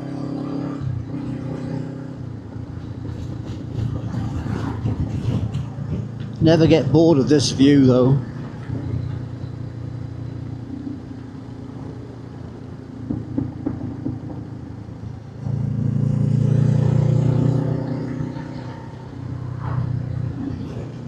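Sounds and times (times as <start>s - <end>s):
motorcycle engine running: 1.0s - 18.2s.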